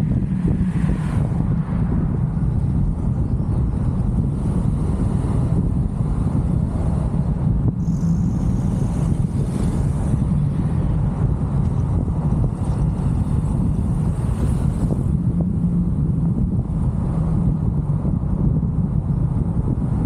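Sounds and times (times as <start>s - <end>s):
tyre and road noise: 0.0s - 20.0s
wind buffeting microphone: 0.0s - 20.0s.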